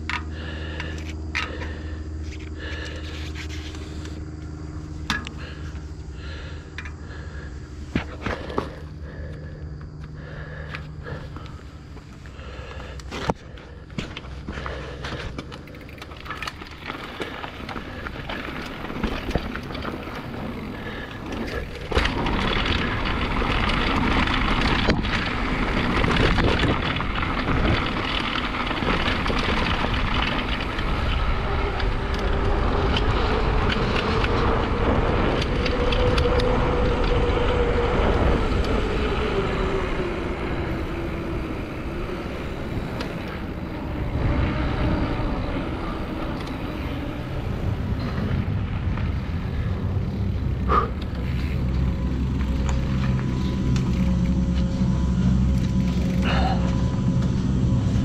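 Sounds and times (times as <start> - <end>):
bike rattling and clattering: 0.0 - 58.0
bike tyre and wind noise: 0.0 - 58.0.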